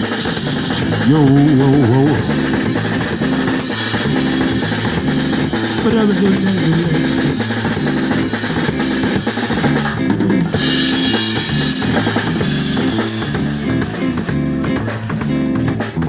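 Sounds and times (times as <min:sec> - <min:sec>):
drum kit: 0:00.0 - 0:16.0
live band playing: 0:00.0 - 0:16.0
low bass line: 0:00.0 - 0:16.0.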